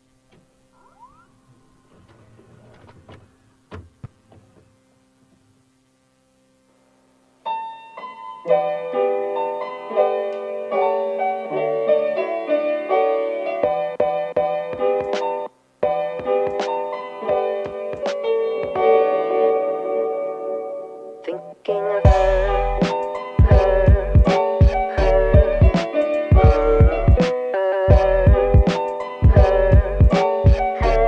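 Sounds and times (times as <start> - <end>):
background piano music: 0.0 - 31.0.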